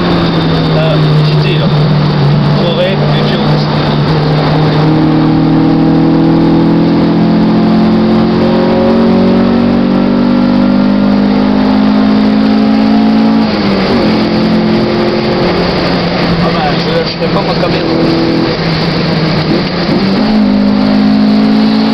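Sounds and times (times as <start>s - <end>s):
car engine accelerating hard: 0.0s - 21.9s.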